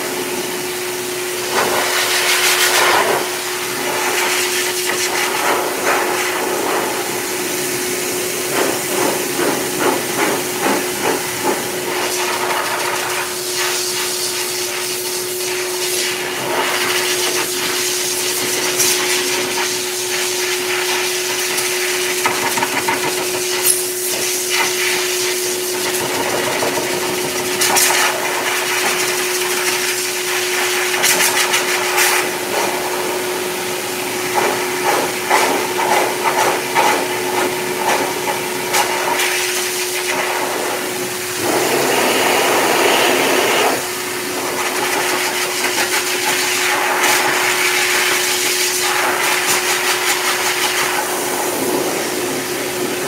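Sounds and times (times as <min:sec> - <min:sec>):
dog dryer blowing air: 0:00.0 - 0:53.0.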